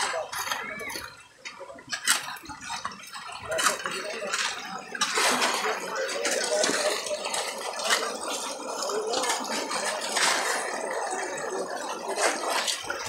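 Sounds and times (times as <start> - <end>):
shovels scraping wet gravel: 1.9 - 13.0.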